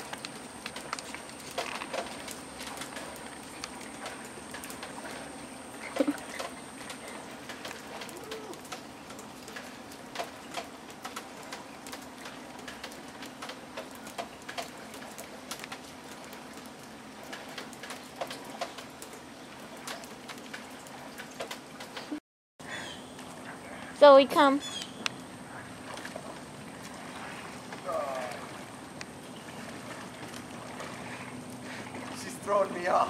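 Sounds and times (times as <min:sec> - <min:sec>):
light rain pattering: 0:00.0 - 0:33.0.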